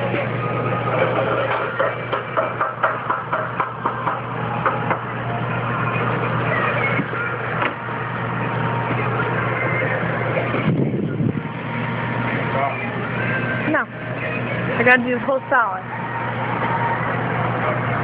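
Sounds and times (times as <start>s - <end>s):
kitchen equipment humming: 0.0s - 18.0s.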